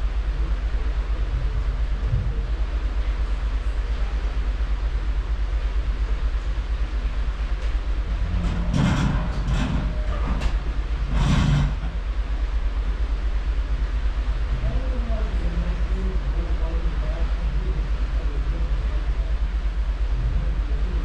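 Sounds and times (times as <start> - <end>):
ship propulsion rumble and wake: 0.0 - 21.0.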